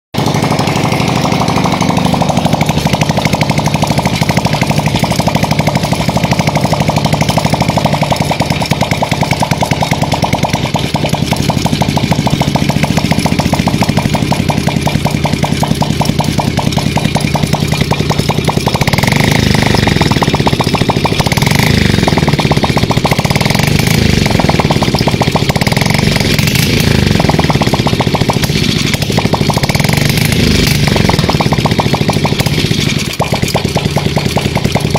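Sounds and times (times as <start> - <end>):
engine exhaust pulsing: 0.1 - 34.9.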